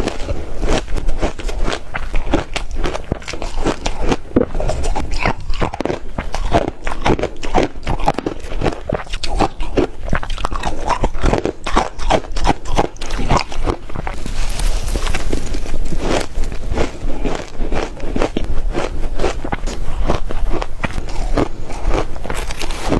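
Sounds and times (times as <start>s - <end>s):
chewing ice crunches: 0.0s - 22.9s.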